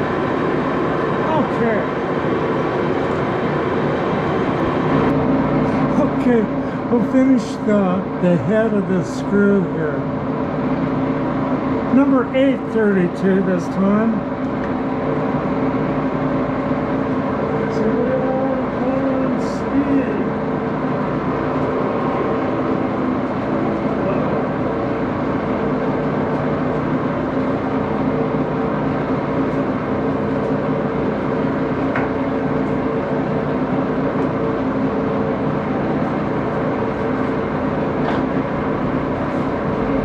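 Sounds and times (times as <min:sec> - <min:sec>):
lathe running with mechanical hum: 0:00.0 - 0:40.0.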